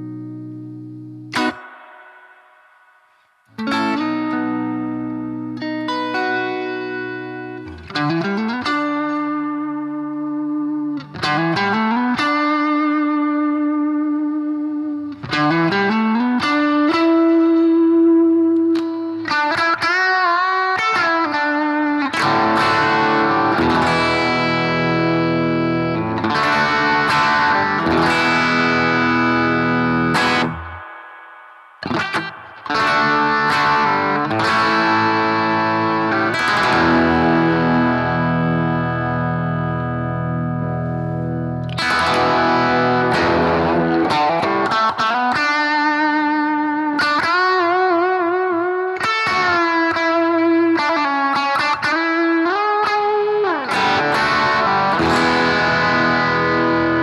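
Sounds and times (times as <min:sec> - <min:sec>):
overdriven electric guitar: 0:00.0 - 0:57.0.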